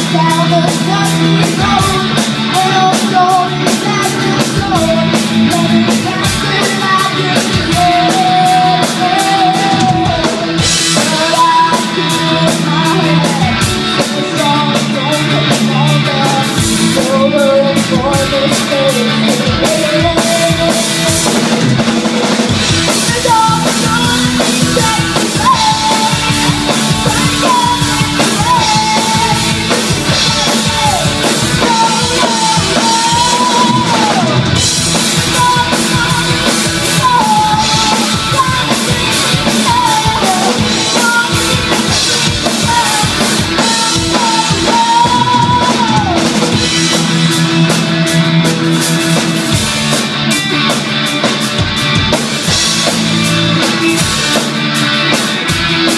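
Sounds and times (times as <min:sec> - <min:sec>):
lead vocal singing: 0:00.0 - 0:49.6
drum kit beat: 0:00.0 - 0:55.9
electric bass: 0:00.0 - 0:55.9
electric guitars: 0:00.0 - 0:55.9.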